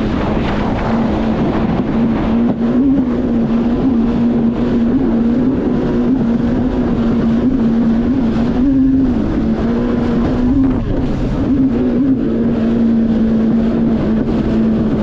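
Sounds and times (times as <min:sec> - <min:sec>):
rushing water: 0:00.0 - 0:15.0
watercraft engine running: 0:00.0 - 0:15.0
wind noise: 0:00.0 - 0:15.0.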